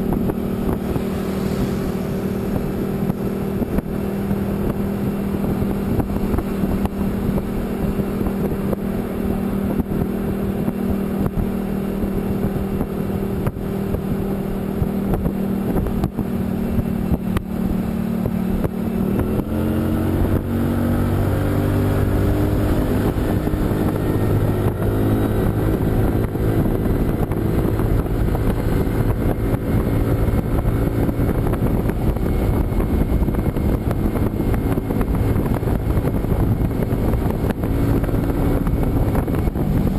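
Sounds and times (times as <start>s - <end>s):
road noise: 0.0s - 39.9s
vehicle engine running: 0.0s - 39.9s
wind: 0.0s - 39.9s.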